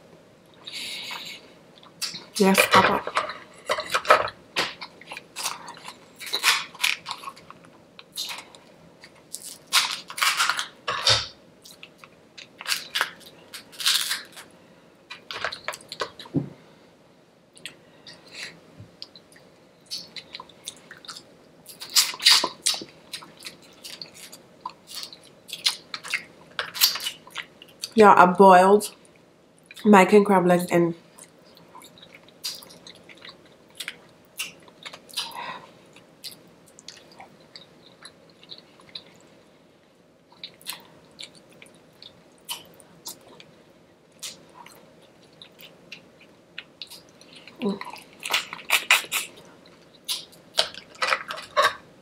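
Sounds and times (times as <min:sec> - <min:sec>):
person chewing and crunching food: 0:03.2 - 0:16.4, 0:17.6 - 0:28.0, 0:31.2 - 0:39.4, 0:40.3 - 0:52.0.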